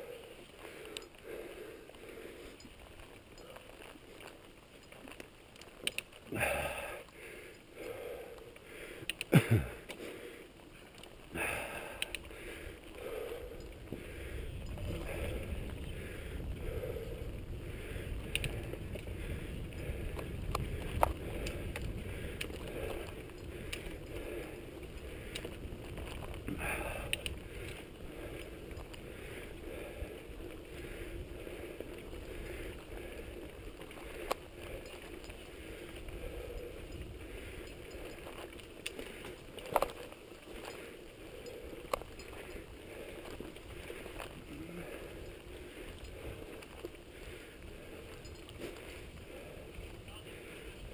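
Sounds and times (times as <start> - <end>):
bike rattling: 0.0 - 50.9
bike tyres rolling on dirt: 0.0 - 50.9.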